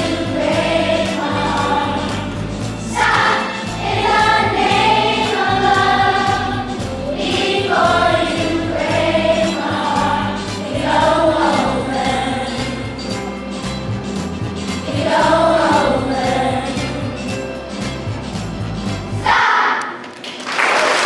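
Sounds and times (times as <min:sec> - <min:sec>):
instrumental accompaniment: 0:00.0 - 0:19.4
children's choir singing pop song: 0:00.0 - 0:20.0.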